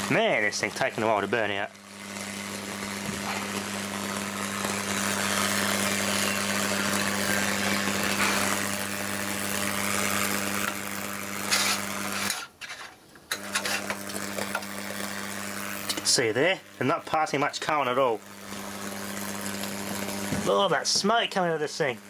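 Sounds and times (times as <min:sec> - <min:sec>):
capacitor hissing: 0:00.0 - 0:12.5, 0:13.2 - 0:22.0
electrical hum: 0:00.0 - 0:22.0.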